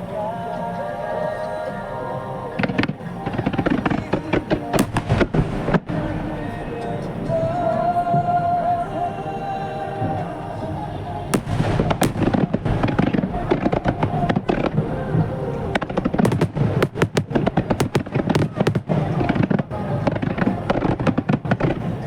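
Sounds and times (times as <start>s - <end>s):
music: 0.0s - 22.0s
fireworks bursts and crackling: 2.4s - 9.3s, 10.0s - 22.0s.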